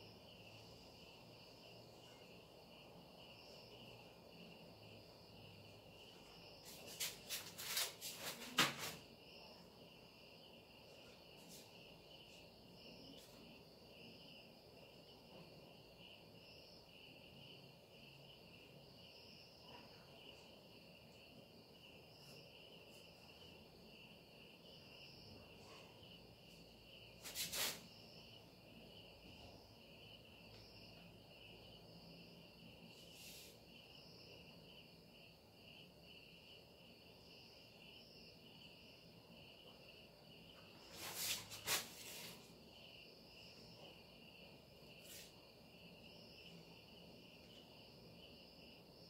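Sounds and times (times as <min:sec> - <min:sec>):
crickets chirring: 0:00.0 - 0:49.0.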